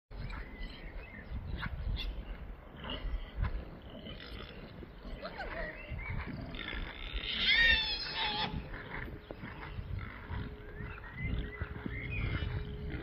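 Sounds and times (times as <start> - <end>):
pigs grunting and squealing: 2.0 - 13.0.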